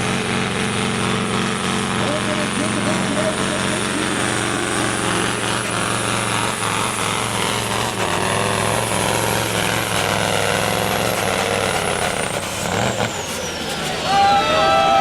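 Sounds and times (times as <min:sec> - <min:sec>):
diesel engine running hard: 0:00.0 - 0:15.0.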